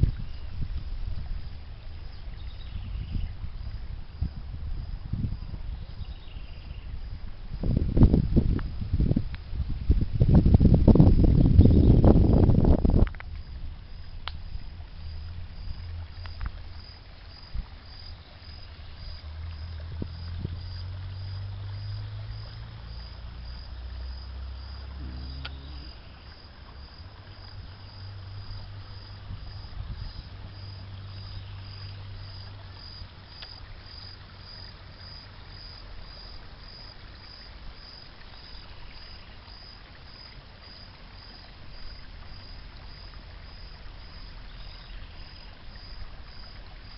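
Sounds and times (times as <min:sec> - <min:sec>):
insect chirping: 0:00.0 - 0:46.9
wind rumble on microphone: 0:00.0 - 0:46.9.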